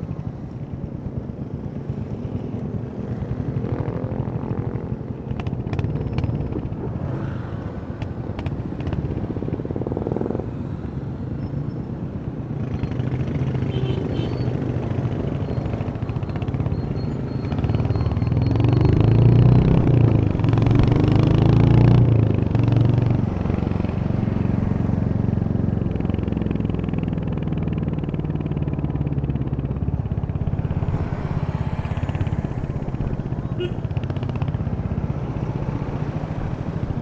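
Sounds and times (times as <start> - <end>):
motorcycle engine and exhaust: 0.0 - 37.0.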